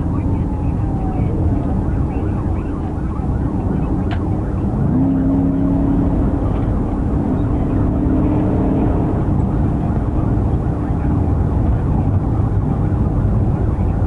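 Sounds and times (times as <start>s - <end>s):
car engine inside car: 0.0s - 14.0s
road noise: 0.0s - 14.0s.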